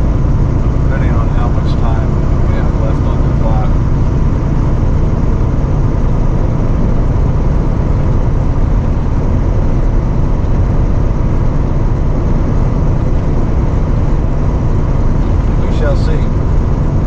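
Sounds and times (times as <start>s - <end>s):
road rumble: 0.0s - 17.0s
truck engine drone: 0.0s - 17.0s.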